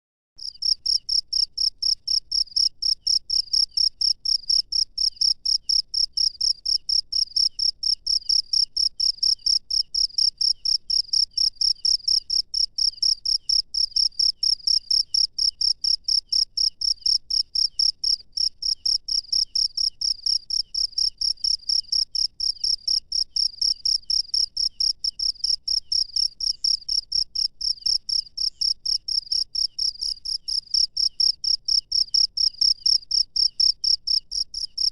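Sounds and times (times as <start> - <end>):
cricket chirping: 0.4 - 34.9.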